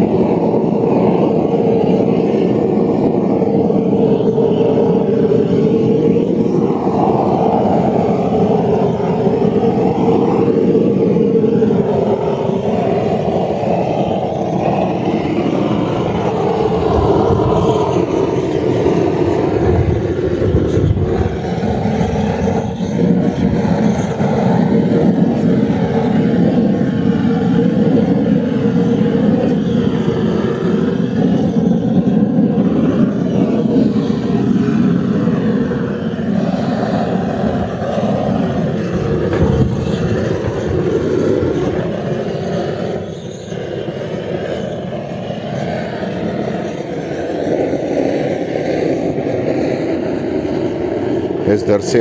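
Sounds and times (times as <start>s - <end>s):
blowtorch flame roaring: 0.0s - 52.0s.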